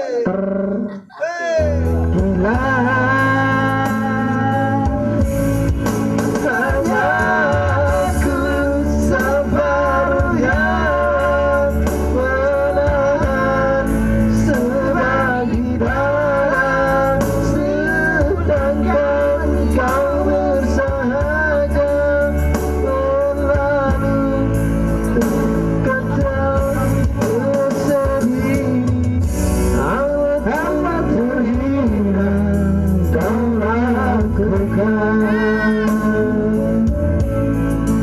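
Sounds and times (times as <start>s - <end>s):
guitar accompaniment: 0.0s - 38.0s
man singing: 0.0s - 38.0s.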